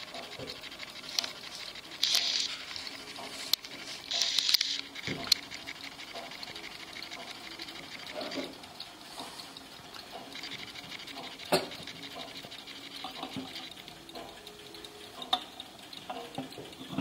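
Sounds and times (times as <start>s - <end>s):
clock ticking fast: 0.0s - 17.0s.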